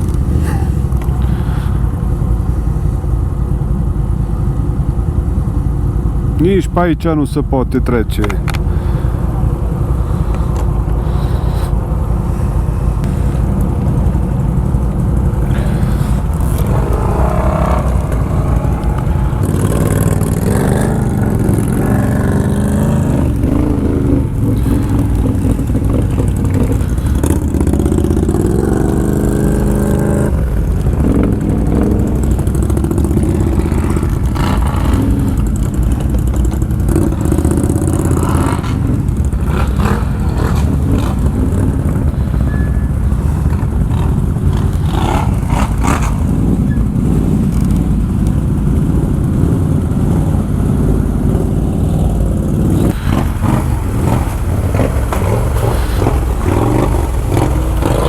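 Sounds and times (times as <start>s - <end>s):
atv engine revving: 0.0s - 7.2s, 7.9s - 58.0s.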